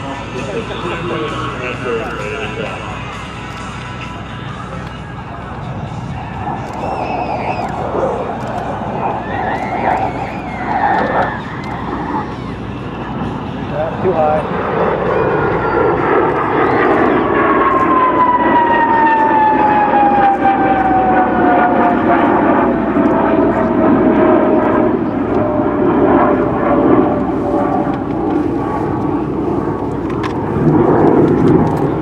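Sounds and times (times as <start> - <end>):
jet aircraft passing: 0.0 - 32.0.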